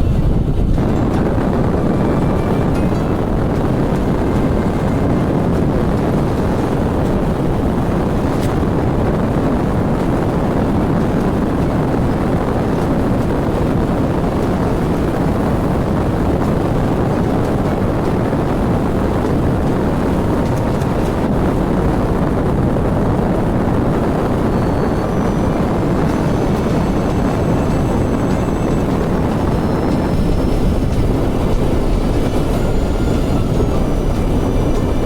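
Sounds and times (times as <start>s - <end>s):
motorcycle engine: 0.0s - 35.0s
tyre noise on road: 0.0s - 35.0s
wind rushing over microphone: 0.0s - 35.0s.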